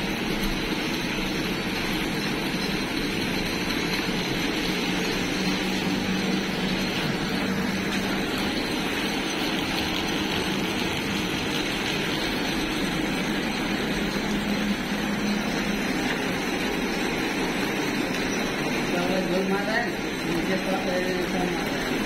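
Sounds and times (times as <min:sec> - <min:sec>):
industrial machine humming: 0:00.0 - 0:22.0.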